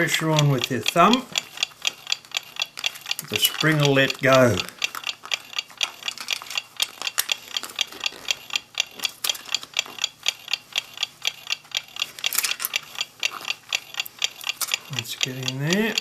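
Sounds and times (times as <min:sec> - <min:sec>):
clocks ticking: 0:00.0 - 0:16.0.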